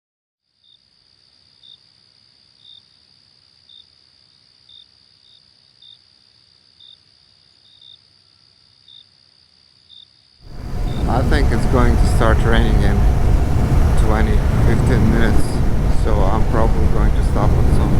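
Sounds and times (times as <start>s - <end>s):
crickets chirping: 0.5s - 17.9s.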